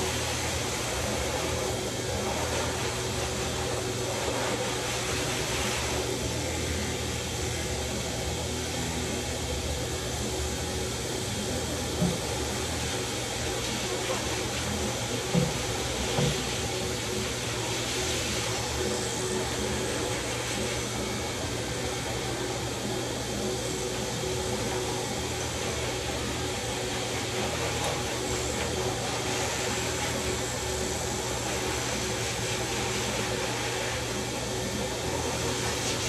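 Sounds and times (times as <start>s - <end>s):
electric clippers humming: 0.0s - 36.0s.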